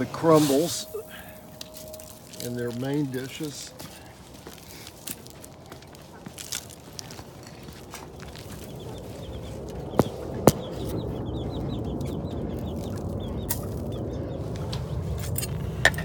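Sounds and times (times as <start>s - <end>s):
pheasants clucking: 0.0s - 16.0s.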